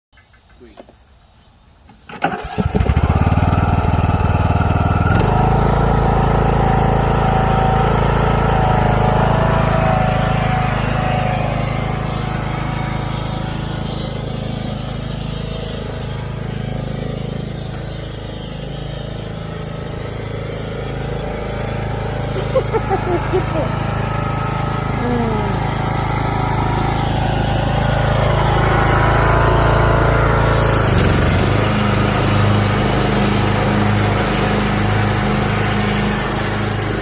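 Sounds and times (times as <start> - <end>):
small engine starting and running: 2.0 - 37.0.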